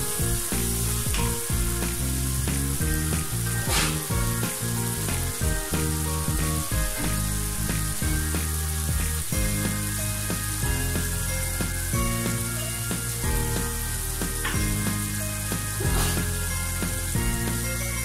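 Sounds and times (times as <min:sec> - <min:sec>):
background music: 0:00.0 - 0:18.0
curry sizzling in a wok: 0:00.0 - 0:18.0.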